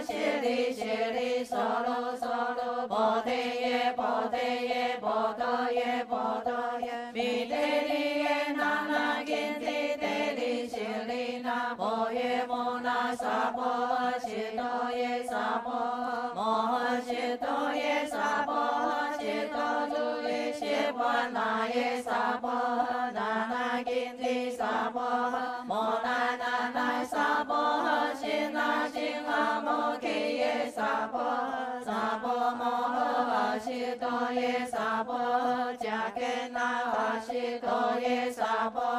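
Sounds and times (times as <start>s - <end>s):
group chanting in unison: 0.0s - 38.9s.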